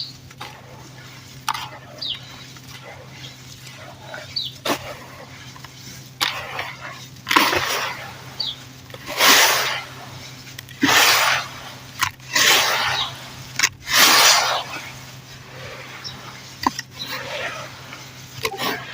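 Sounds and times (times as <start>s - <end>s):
dirt crumbling crunch: 0.0s - 18.9s.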